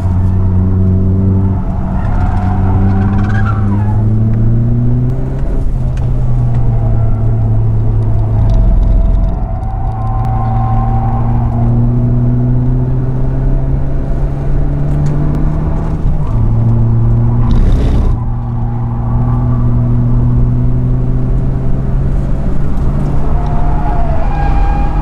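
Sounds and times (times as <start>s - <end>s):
race car engine at full throttle: 0.0s - 25.0s.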